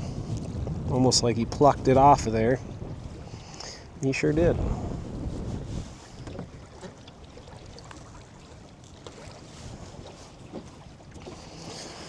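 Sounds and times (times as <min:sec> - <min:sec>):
wind and water rumble: 0:00.0 - 0:12.0.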